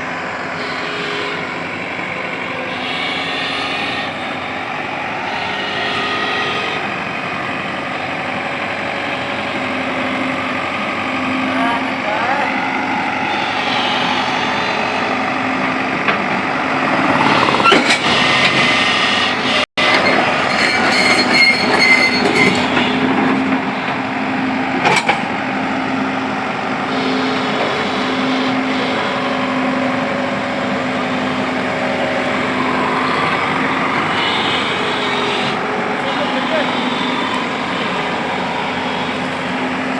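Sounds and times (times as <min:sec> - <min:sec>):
diesel engine droning: 0:00.0 - 0:20.9, 0:21.7 - 0:39.9.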